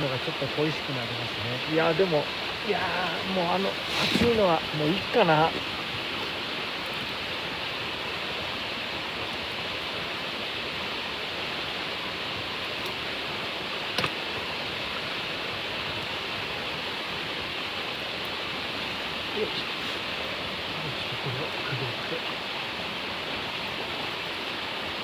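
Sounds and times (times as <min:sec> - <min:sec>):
river rushing: 0:00.0 - 0:25.0.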